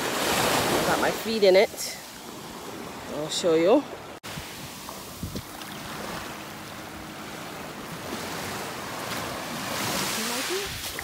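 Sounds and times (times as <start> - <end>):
surf waves washing on sand: 0.0 - 11.0.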